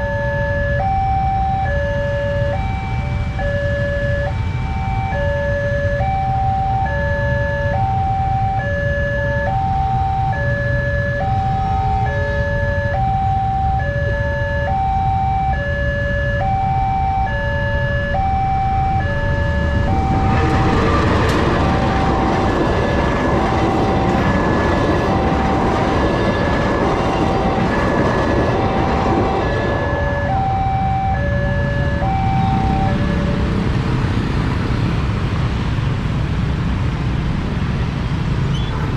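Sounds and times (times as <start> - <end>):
two-tone level crossing alarm: 0.0 - 33.5
idling traffic rumble: 0.0 - 38.9
passing train rush: 0.0 - 38.9.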